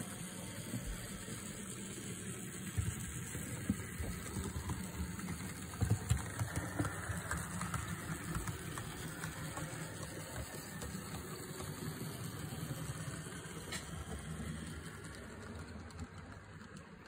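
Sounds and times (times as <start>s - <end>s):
model locomotive rumbling on track: 0.0s - 17.0s.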